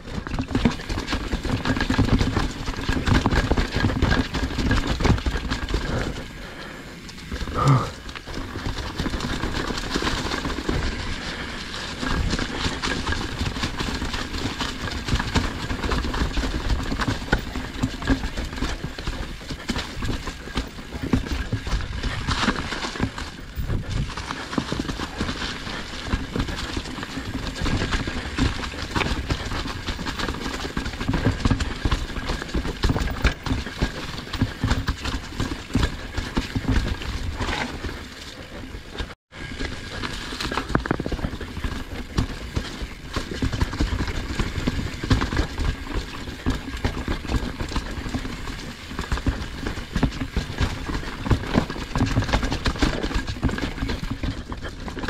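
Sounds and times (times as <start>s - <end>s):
bike chain and frame rattling: 0.0s - 55.0s
bike tyres clattering over rocks: 0.0s - 55.0s.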